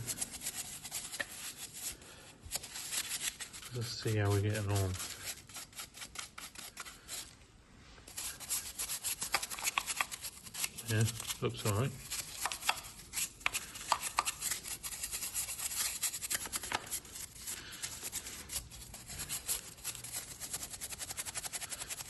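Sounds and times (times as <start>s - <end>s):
brush scrubbing engine grime: 0.0s - 7.3s, 8.1s - 22.0s.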